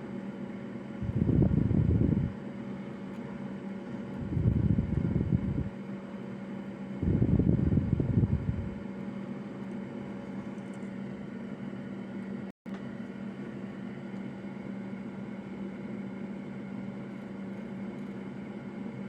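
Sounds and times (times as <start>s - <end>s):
fan-driven equipment humming: 0.0s - 19.0s.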